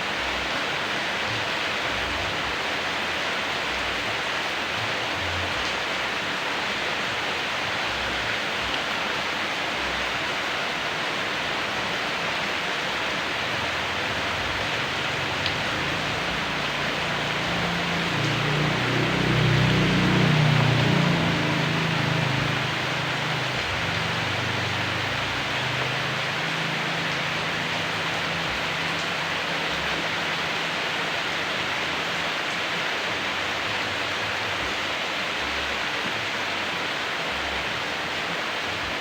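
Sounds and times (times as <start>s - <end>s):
steady rainfall: 0.0s - 39.0s.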